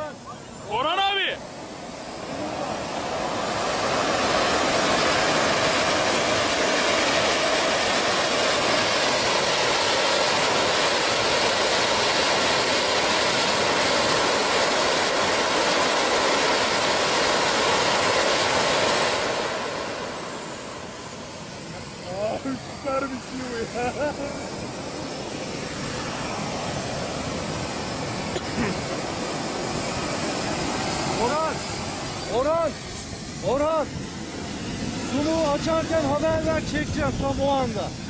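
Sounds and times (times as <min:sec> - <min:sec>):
model jet engine running: 0:00.0 - 0:38.0.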